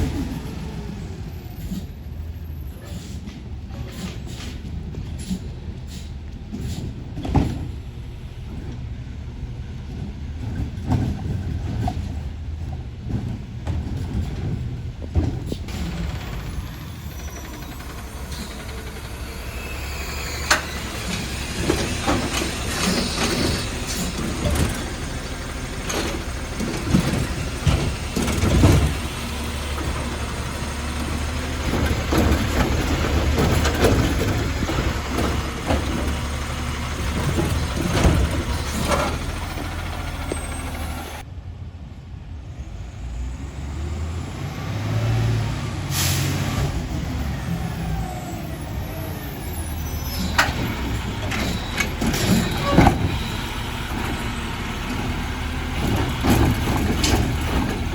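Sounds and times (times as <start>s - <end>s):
garbage truck engine running: 0.0s - 41.3s, 43.2s - 57.9s.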